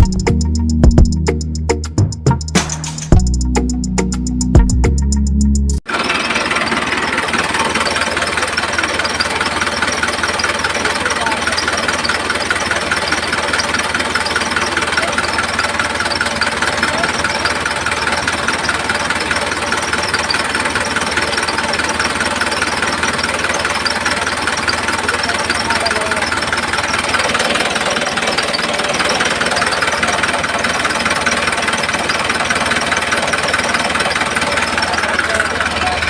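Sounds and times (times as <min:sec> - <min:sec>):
small engine chugging: 0:05.9 - 0:36.0.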